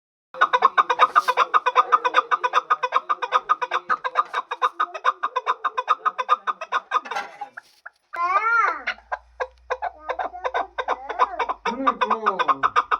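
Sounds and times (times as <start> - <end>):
partridge clucking calls: 0.4 - 12.9.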